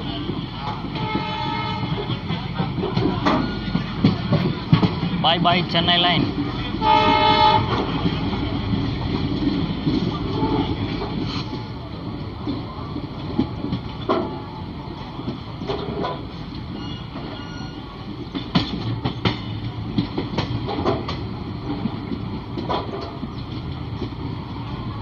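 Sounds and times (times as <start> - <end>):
clacks and knocks of rails: 0.0 - 24.9
train wheels rumbling on track: 0.0 - 25.0.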